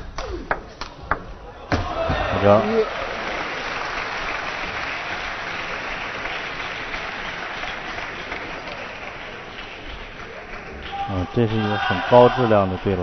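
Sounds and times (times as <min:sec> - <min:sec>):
spectators applauding: 0:02.3 - 0:13.0.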